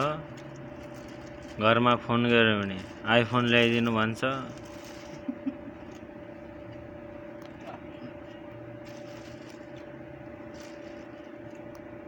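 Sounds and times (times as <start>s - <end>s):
plastic bag crinkling: 0.0s - 6.7s, 8.2s - 12.0s
machinery humming: 0.0s - 12.0s.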